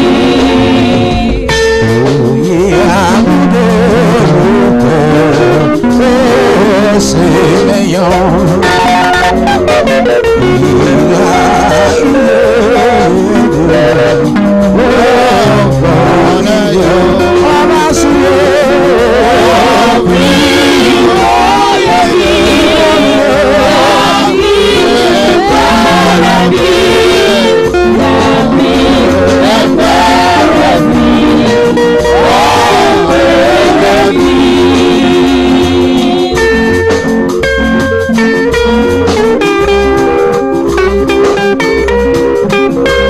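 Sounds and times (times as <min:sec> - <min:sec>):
people singing praise music: 0:00.0 - 0:08.0, 0:09.9 - 0:37.0
electric guitar: 0:00.0 - 0:43.0
keyboard: 0:00.0 - 0:43.0.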